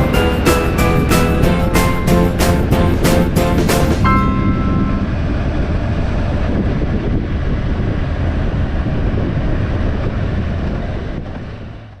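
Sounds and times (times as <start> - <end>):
wind buffeting microphone: 0.0 - 12.0
wind rush and road noise: 0.0 - 12.0.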